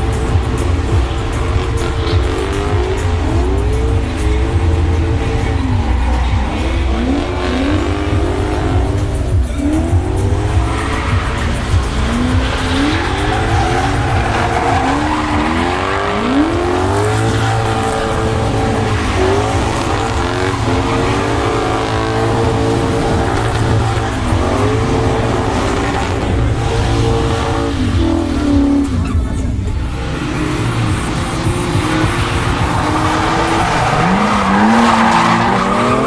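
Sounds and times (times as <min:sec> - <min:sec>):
car engine revving: 0:00.0 - 0:36.0
tyres squealing: 0:00.0 - 0:36.0.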